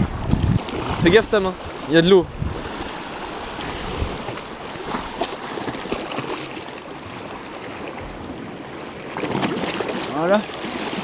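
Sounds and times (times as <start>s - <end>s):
surf splashing over rocks: 0.0s - 11.0s.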